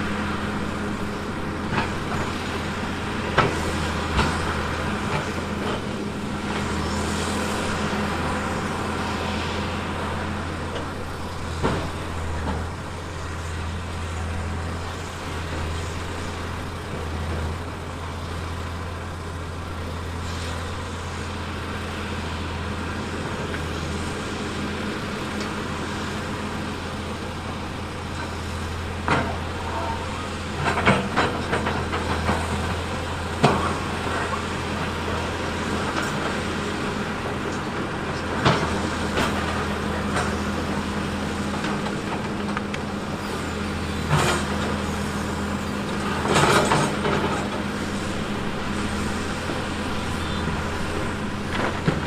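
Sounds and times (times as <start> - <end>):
diesel engine humming: 0.0 - 52.0.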